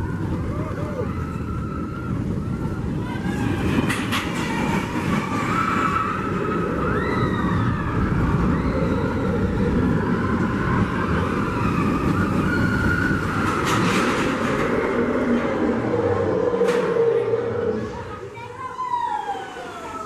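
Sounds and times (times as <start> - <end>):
roller coaster rumble: 0.0 - 20.0
wheels squealing: 0.2 - 18.1.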